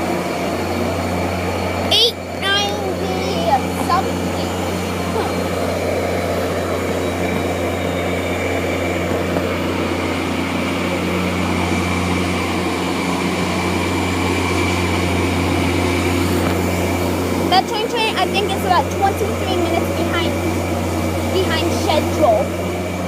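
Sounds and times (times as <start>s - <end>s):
diesel locomotive running: 0.0s - 23.0s.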